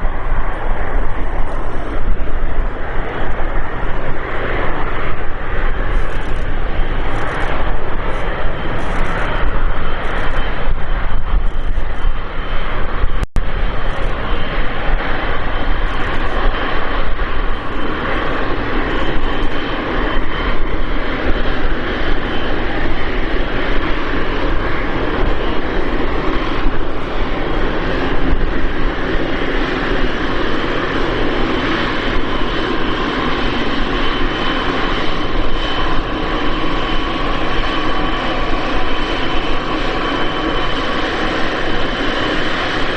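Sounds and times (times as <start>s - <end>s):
jet engine whine: 0.0s - 42.9s
jet engines rushing: 0.0s - 42.9s.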